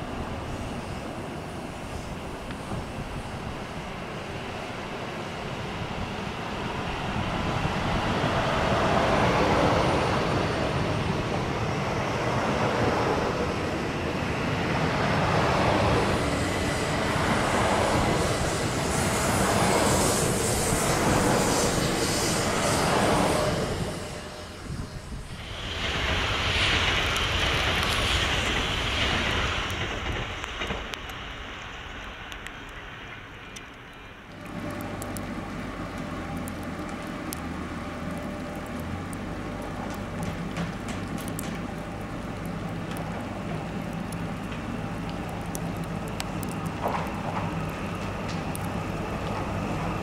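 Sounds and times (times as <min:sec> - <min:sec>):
high-speed train passing: 0:00.0 - 0:50.0.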